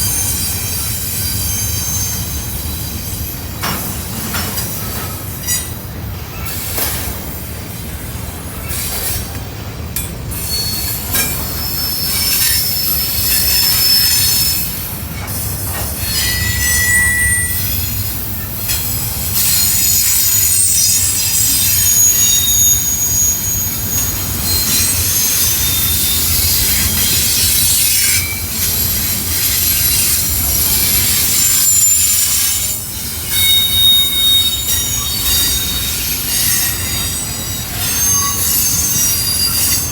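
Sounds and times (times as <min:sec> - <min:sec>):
train wheels squealing: 0:00.0 - 0:09.4, 0:10.0 - 0:39.9
freight cars rumbling: 0:00.0 - 0:39.9.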